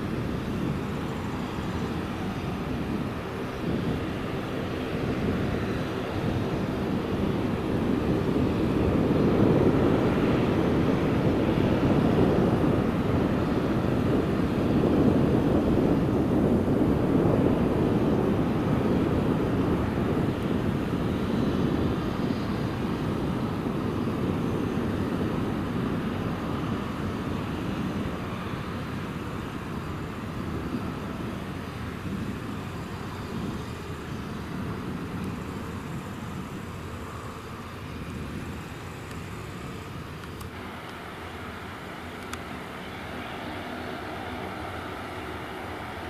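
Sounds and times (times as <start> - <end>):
jet engine roar: 0.0 - 46.0.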